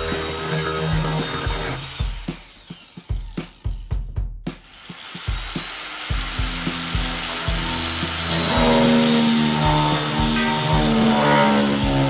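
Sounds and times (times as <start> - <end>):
power tool motor whining: 0.0 - 3.8, 4.6 - 12.0
background music with beat: 0.0 - 12.0.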